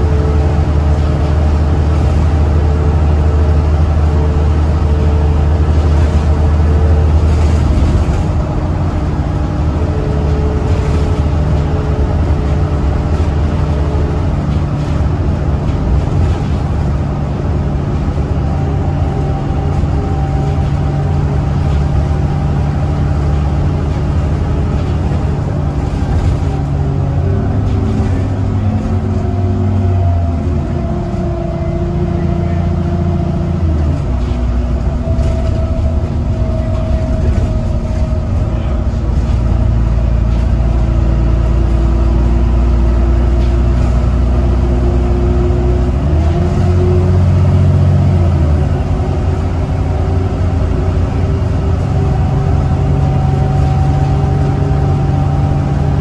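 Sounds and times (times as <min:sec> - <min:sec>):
bus diesel engine drone: 0:00.0 - 0:56.0
road and body noise: 0:00.0 - 0:56.0.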